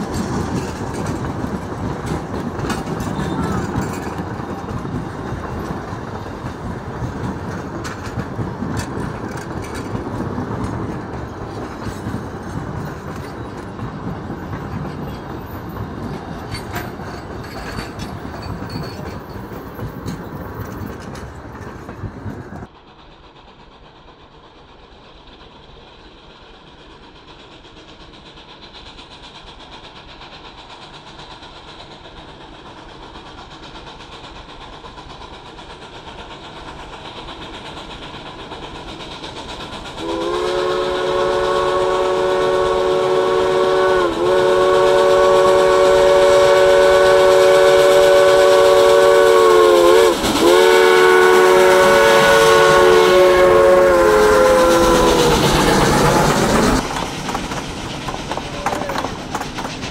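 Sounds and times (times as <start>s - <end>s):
distant train approaching: 0.0s - 59.9s
train wheels clicking over rail joints: 0.0s - 59.9s.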